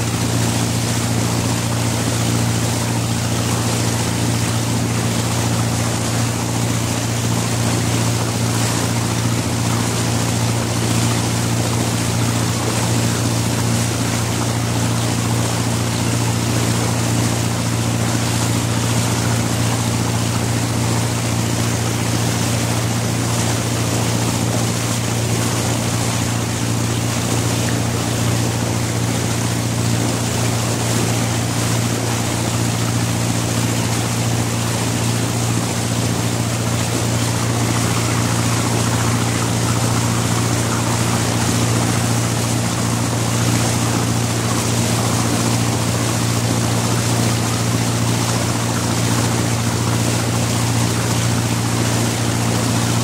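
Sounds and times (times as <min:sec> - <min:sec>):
boat diesel engine running: 0:00.0 - 0:53.0
rush of water: 0:00.0 - 0:53.0.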